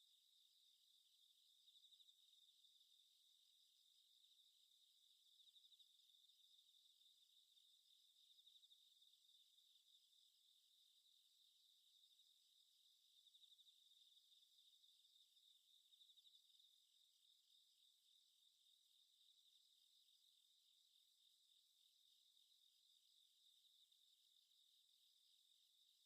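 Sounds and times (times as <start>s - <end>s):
faint crickets chirping: 0.0s - 26.0s.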